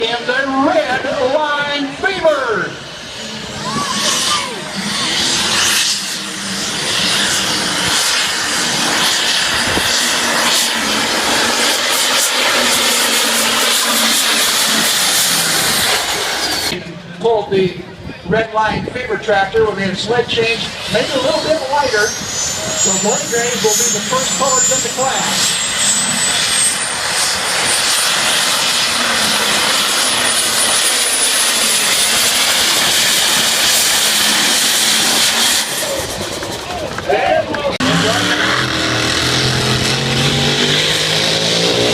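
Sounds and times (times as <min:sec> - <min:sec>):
turbocharger whine: 0:00.0 - 0:41.9.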